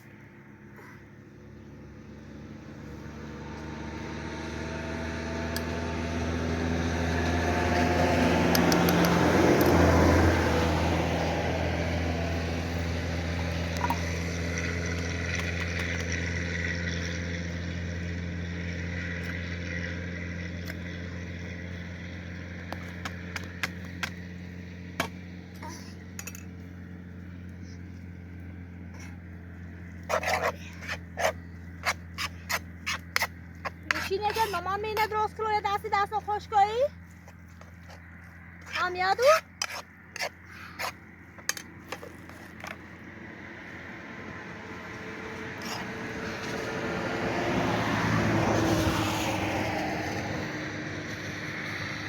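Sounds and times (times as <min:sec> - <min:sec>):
motor vehicle passing by: 0:00.0 - 0:52.0.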